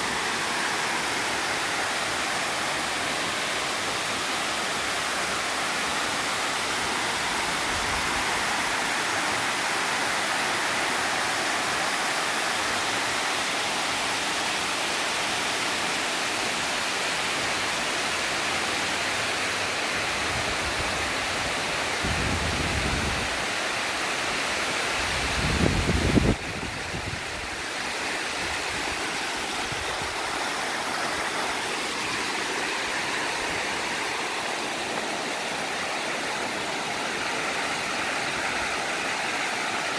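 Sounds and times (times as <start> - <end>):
water cascading over dam: 0.0 - 39.9.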